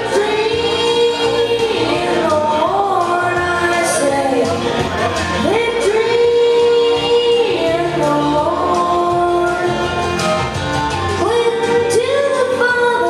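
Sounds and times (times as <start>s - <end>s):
boy singing country song: 0.0s - 4.7s, 5.4s - 10.4s, 11.2s - 13.0s
instrumental accompaniment: 0.0s - 13.0s.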